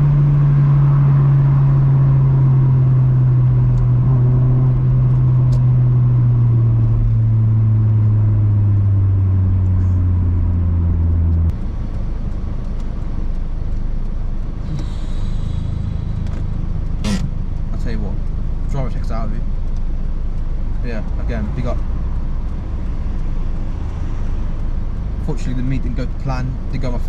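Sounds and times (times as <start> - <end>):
car exhaust droning: 0.0 - 27.0
road noise: 0.0 - 27.0.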